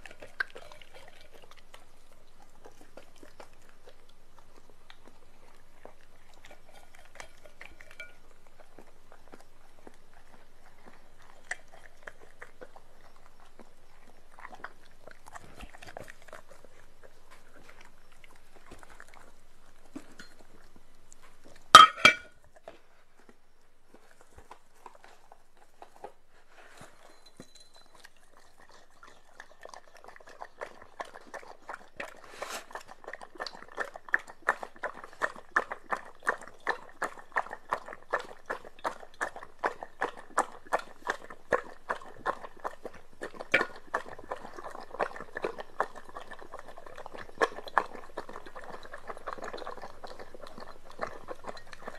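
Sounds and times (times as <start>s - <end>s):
dog lapping liquid: 0.0s - 22.2s, 28.0s - 51.9s
dog chewing food: 0.0s - 51.9s.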